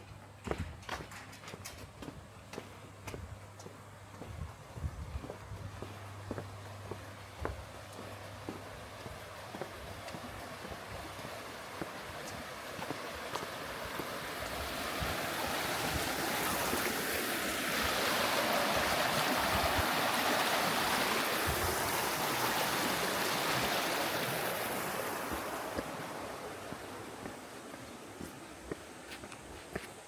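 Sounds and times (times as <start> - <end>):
stream water rushing: 5.9 - 30.0.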